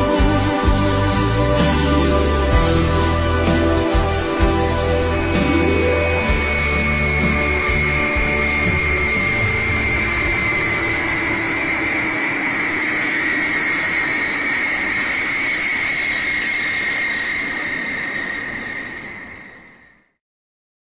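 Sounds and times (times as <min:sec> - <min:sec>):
jet engines whining: 0:00.0 - 0:20.1.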